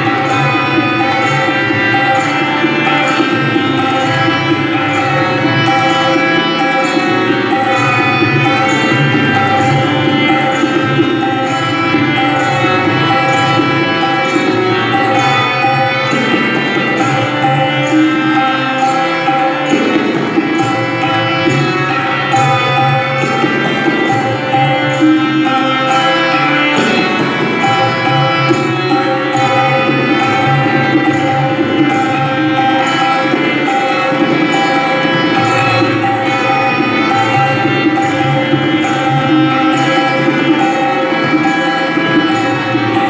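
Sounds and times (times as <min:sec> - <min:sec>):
melodic drone accompaniment: 0:00.0 - 0:43.0
tabla rhythm: 0:00.0 - 0:43.0.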